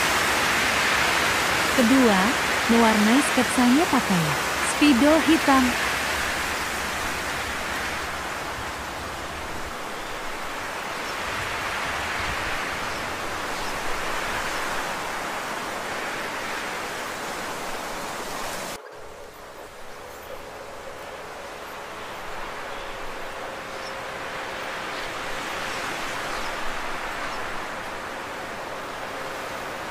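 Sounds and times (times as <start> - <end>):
steady rushing hiss: 0.0 - 29.9.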